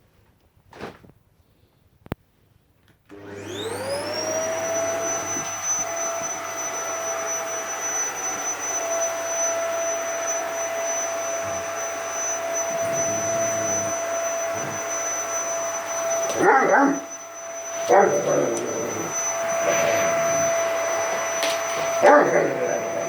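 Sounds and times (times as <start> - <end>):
vacuum cleaner running: 3.1 - 23.0.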